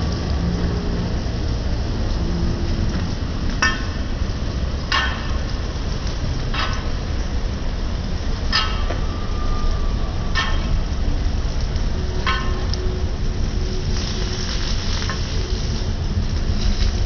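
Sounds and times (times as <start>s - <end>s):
flatbread sizzling on a griddle: 0.0s - 17.0s
low rumble: 0.0s - 17.0s.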